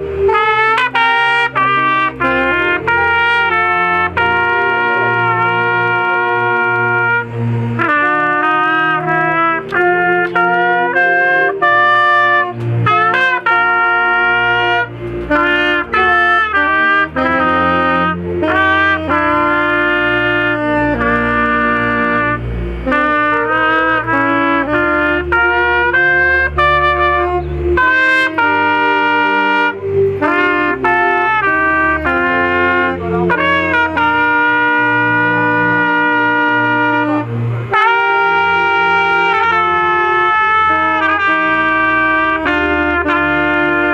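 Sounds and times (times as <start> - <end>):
brass band playing a hymn: 0.0 - 43.9
trumpet melody: 0.0 - 43.9.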